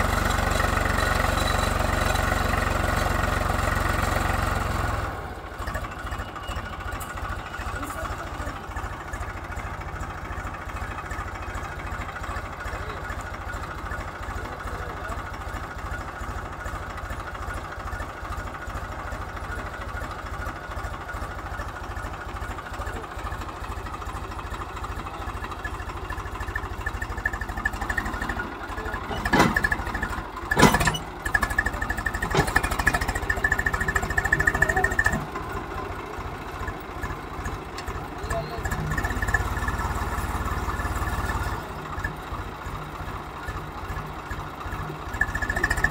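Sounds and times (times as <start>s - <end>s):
tractor diesel engine chugging: 0.0s - 45.9s.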